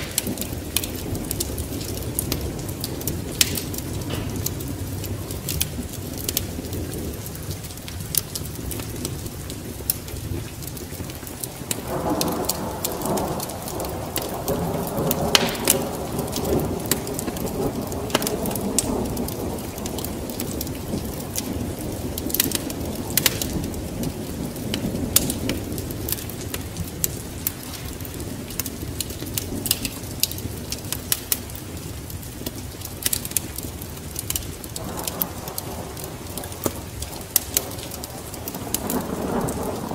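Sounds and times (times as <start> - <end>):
thunder rumble: 0.0 - 32.7, 33.4 - 39.9
rain falling: 0.0 - 39.9
wood fire crackling: 0.0 - 39.9.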